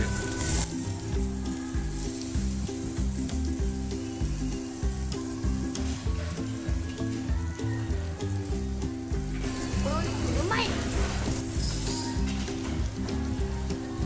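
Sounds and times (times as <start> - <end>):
background music low notes: 0.0 - 14.0
meat sizzling on a grill: 0.0 - 14.0.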